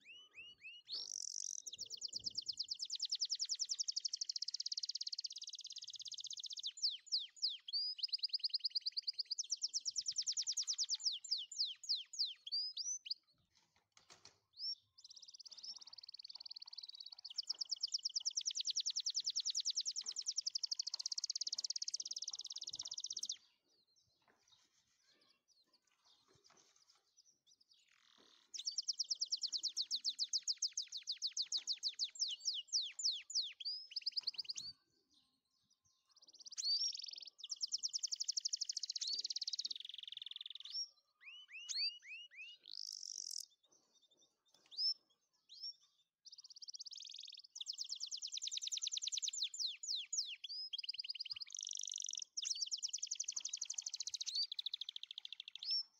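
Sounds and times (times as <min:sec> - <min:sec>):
canary singing trills: 0:00.0 - 0:13.3, 0:14.6 - 0:23.5, 0:27.8 - 0:34.7, 0:36.1 - 0:43.7, 0:44.6 - 0:55.9.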